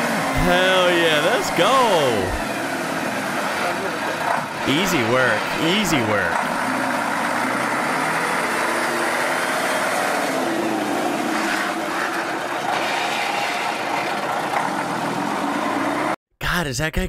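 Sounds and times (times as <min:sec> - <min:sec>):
truck diesel engine under load: 0:00.0 - 0:16.1.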